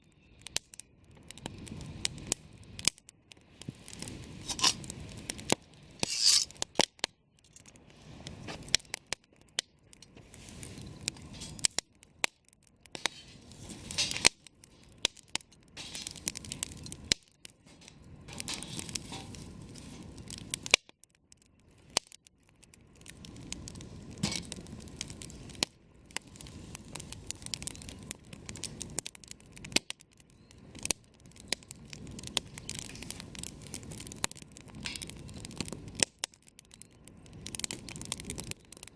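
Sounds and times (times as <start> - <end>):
campfire crackling and popping: 0.0 - 38.9
soft hiss of burning: 0.0 - 38.9.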